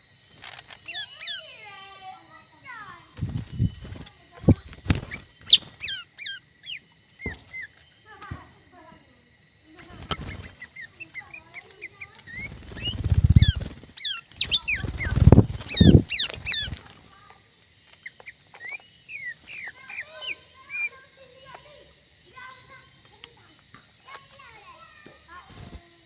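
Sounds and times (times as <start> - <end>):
aviary birds chirping and calling: 0.0 - 9.0, 9.6 - 26.0.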